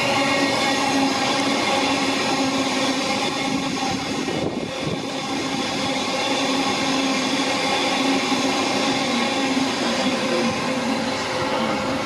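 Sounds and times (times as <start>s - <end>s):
electric train hum: 0.0s - 12.0s
train wheels on rails: 0.0s - 12.0s.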